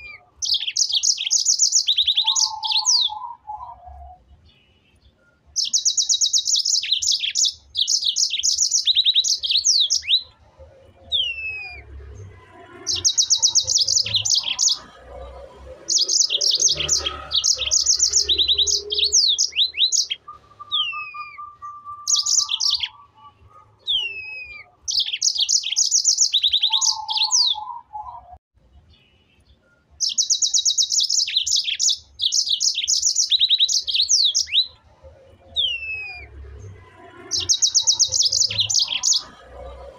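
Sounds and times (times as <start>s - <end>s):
bird chirping and whistling: 0.0s - 4.2s, 5.2s - 10.3s, 10.9s - 12.2s, 12.8s - 15.0s, 15.8s - 28.4s, 30.0s - 34.8s, 35.4s - 36.4s, 37.3s - 39.5s.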